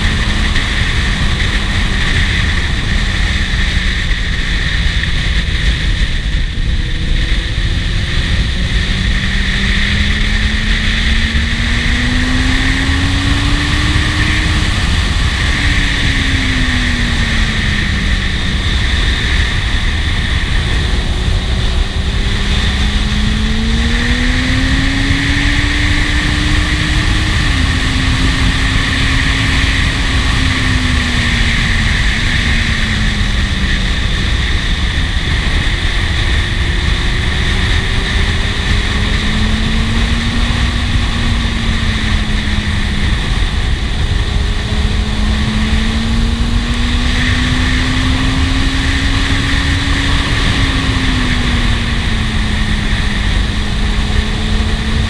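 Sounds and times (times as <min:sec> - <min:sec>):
motorcycle engine running: 0:00.0 - 0:55.0
wind rush: 0:00.0 - 0:55.0.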